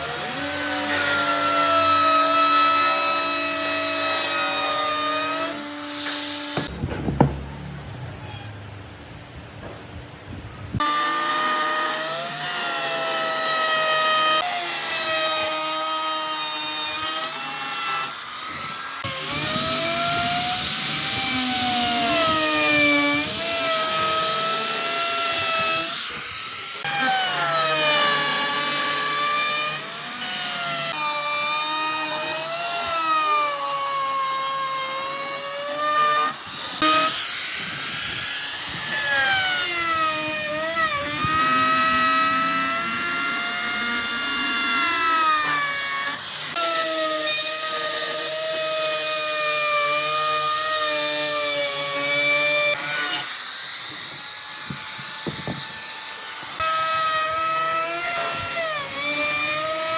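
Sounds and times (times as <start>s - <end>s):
electric power tool whining: 0.0s - 6.8s, 10.8s - 59.9s.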